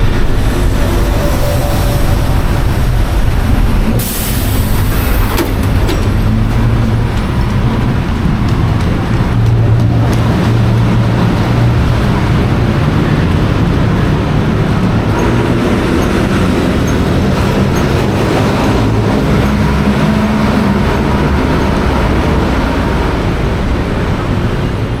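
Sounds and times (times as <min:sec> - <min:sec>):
bus diesel engine running: 0:00.0 - 0:25.0
road noise: 0:00.0 - 0:25.0.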